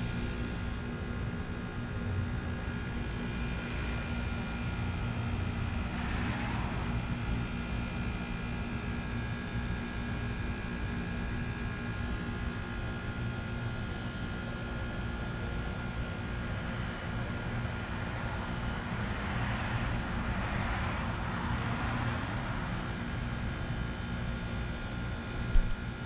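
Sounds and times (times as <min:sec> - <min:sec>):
heat pump compressor hum: 0:00.0 - 0:26.0.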